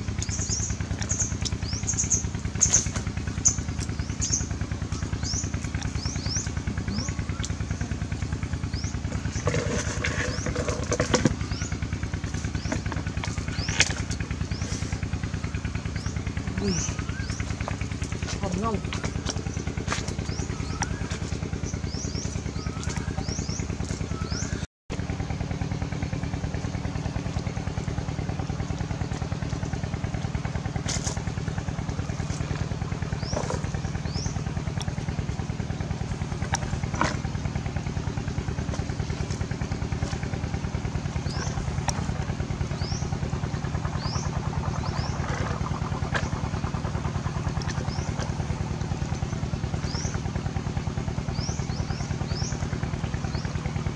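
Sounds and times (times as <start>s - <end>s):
pulsing engine-like drone: 0.0s - 53.9s.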